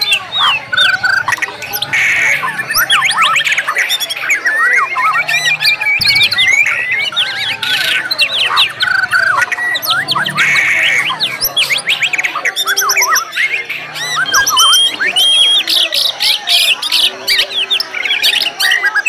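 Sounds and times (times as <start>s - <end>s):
songbirds singing in chorus: 0.0s - 19.0s.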